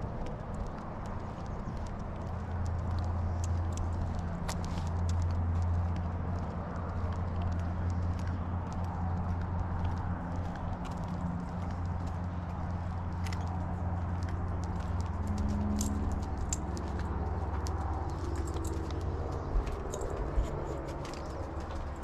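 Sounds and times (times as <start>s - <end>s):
footsteps on paving stones: 0.0s - 22.0s.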